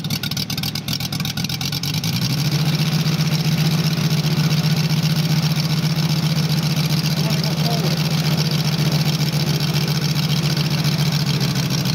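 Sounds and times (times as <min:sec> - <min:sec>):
model aircraft engine idling: 0:00.0 - 0:11.9.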